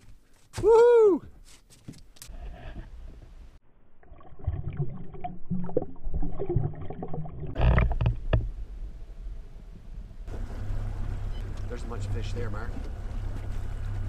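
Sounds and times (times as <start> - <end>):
low steady hum: 2.6 - 14.0.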